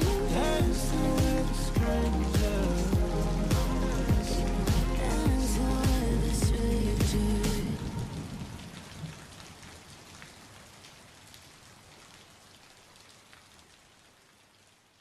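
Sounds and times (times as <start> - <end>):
individual raindrops: 0.0 - 15.0
rain pattering: 0.0 - 15.0.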